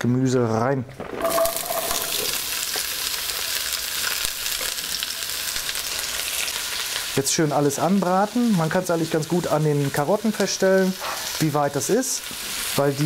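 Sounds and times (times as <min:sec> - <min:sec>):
vegetables sizzling in hot oil: 0:01.0 - 0:13.0.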